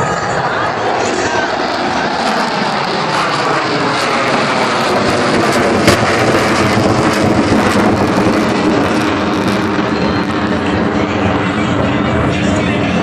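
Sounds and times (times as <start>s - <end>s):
loud jet noise: 0.0s - 13.0s.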